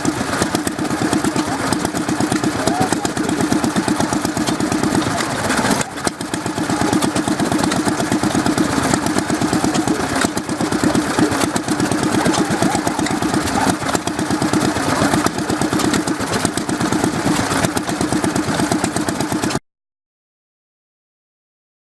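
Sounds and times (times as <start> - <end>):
stationary engine running: 0.0 - 19.6.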